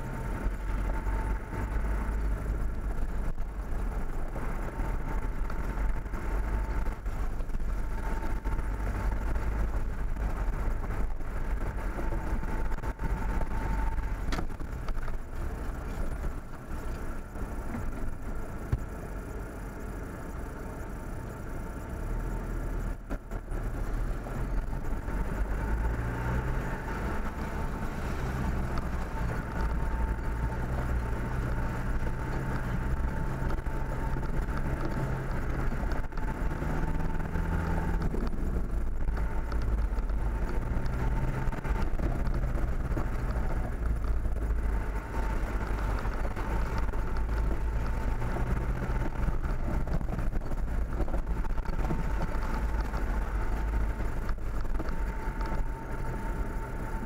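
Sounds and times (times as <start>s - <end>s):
tyre and road noise: 0.0s - 57.0s
vehicle engine humming: 0.0s - 57.0s.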